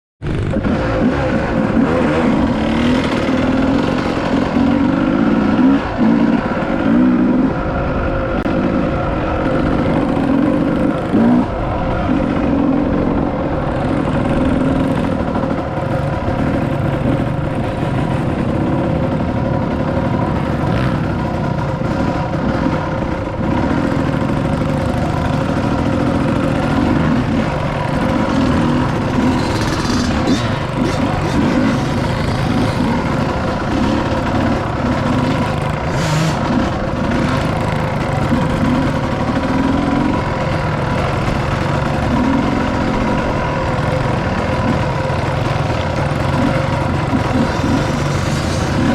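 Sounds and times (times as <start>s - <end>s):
dirt bike engine revving: 0.2s - 48.9s.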